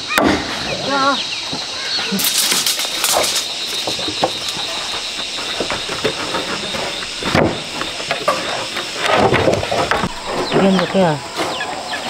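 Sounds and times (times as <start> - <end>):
steady high hiss: 0.0 - 12.0
wooden boards knocking and scraping: 1.5 - 11.6.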